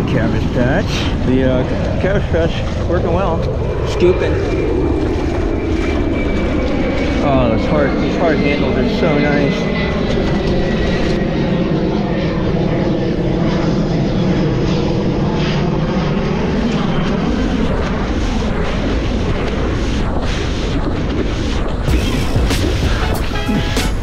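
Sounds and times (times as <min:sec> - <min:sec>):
droning hum: 0:00.0 - 0:24.0
wind rumbling on microphone: 0:00.0 - 0:24.0.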